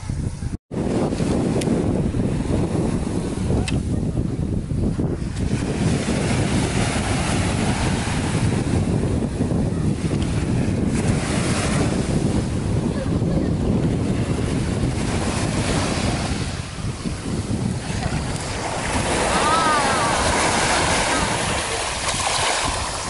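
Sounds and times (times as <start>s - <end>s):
surf on a beach: 0.0s - 23.0s
wind buffeting microphone: 0.0s - 23.0s.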